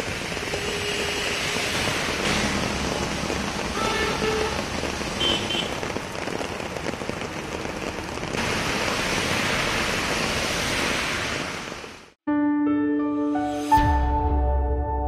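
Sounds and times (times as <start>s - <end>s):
heavy rain on wet road: 0.0s - 12.2s
traffic passing: 0.0s - 12.2s.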